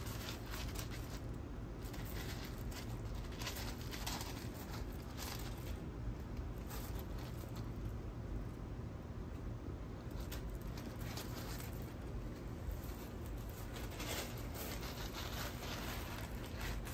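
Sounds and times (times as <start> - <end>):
dry macaroni rustling and clattering: 0.0 - 8.0, 10.0 - 16.9.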